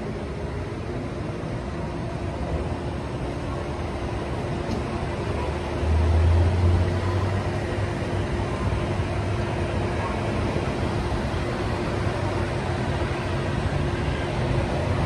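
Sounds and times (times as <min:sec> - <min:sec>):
heavy vehicle engine rumble: 0:00.0 - 0:15.0
road traffic noise: 0:00.0 - 0:15.0.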